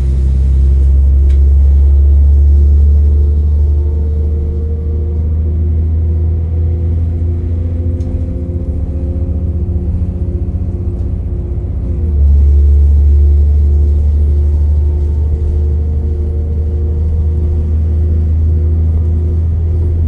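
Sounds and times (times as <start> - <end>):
droning whine: 0.0 - 20.0
train rumble inside carriage: 0.0 - 20.0.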